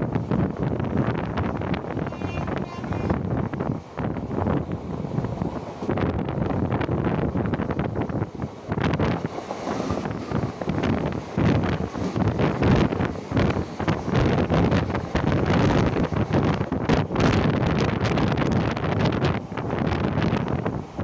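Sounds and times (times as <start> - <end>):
moving train running noise: 0.0 - 21.0
wind buffeting microphone: 0.0 - 21.0.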